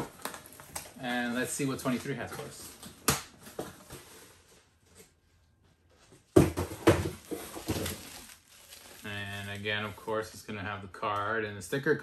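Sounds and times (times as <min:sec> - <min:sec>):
cardboard and plastic rustling: 0:00.0 - 0:05.4, 0:06.0 - 0:10.4.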